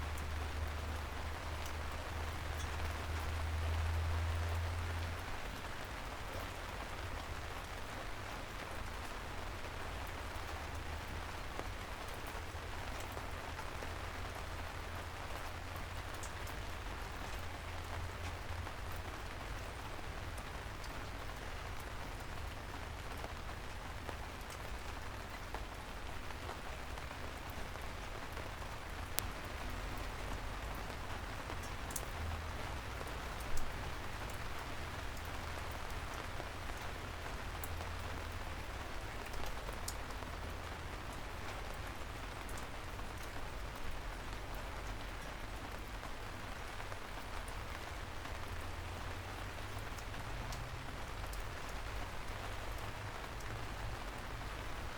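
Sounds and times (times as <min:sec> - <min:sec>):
raindrop ticks: 0:00.0 - 0:54.9
soft rain hiss: 0:00.0 - 0:54.9.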